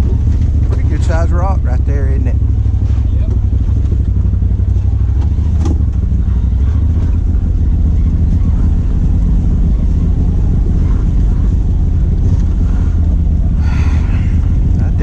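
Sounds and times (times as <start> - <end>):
utility vehicle engine running: 0.0 - 15.0.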